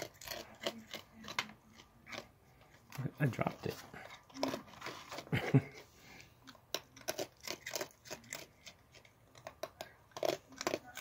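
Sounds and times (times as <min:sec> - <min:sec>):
animal chewing crunchy food: 0:00.0 - 0:11.0.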